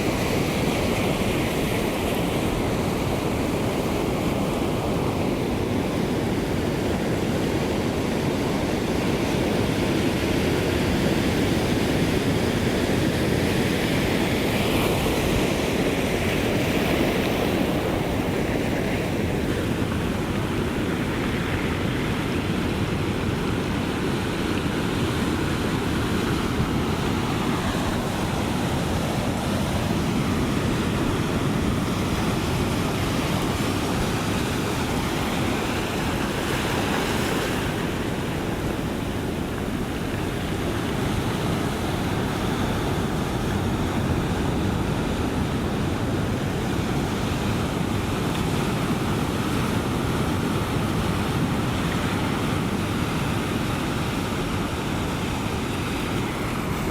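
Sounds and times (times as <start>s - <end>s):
ocean surf rushing: 0.0s - 56.9s.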